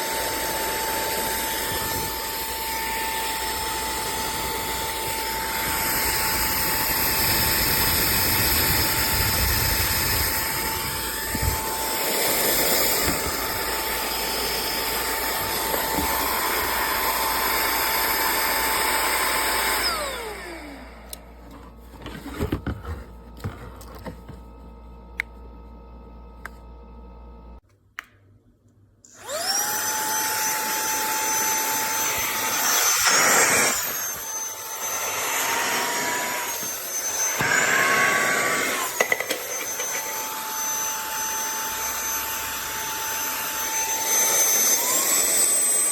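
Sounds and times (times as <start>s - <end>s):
handheld vacuum cleaner whine: 0.0s - 26.4s, 29.1s - 45.9s.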